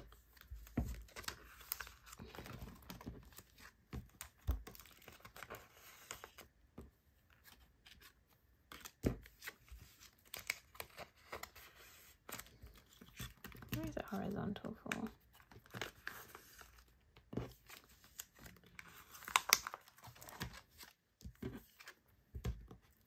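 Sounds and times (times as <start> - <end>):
plastic sleeves rustling and crinkling: 0.0 - 23.0.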